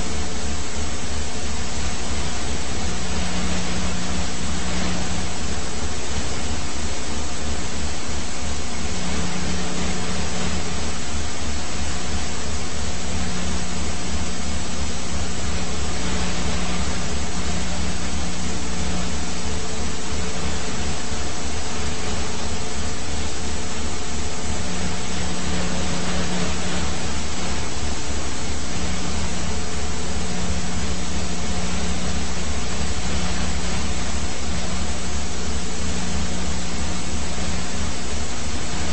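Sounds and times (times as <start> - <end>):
helicopter drone: 0.0 - 38.9
hum: 0.0 - 38.9.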